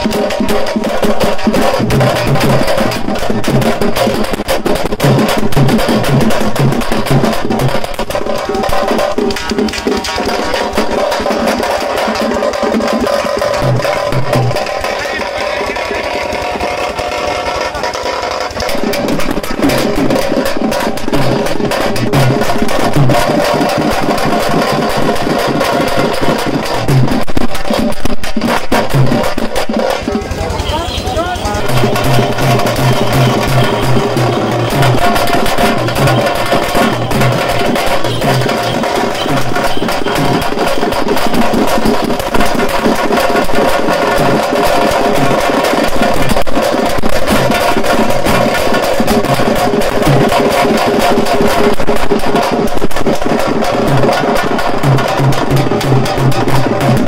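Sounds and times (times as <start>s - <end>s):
frame drums beating: 0.0s - 57.0s.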